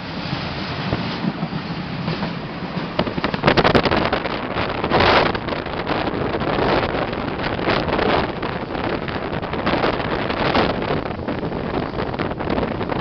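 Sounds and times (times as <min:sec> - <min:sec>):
rolling rail noise: 0:00.0 - 0:13.0
rushing wind: 0:00.0 - 0:13.0
train wheels clicking and clattering: 0:00.1 - 0:13.0.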